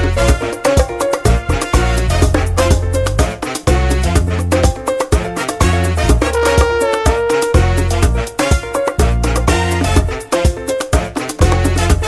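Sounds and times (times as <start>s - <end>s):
upbeat latin-style music: 0.0s - 12.0s.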